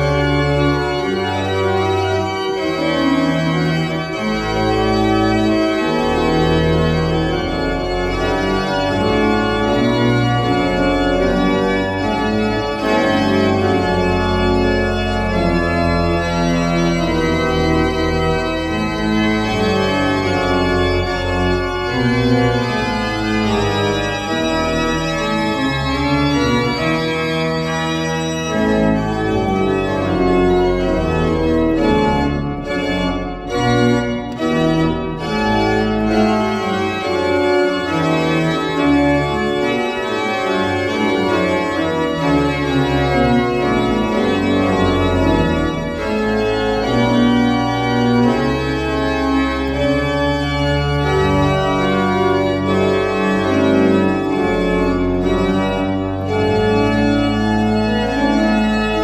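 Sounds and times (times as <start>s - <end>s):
pipe organ sustained chords: 0.0s - 59.0s.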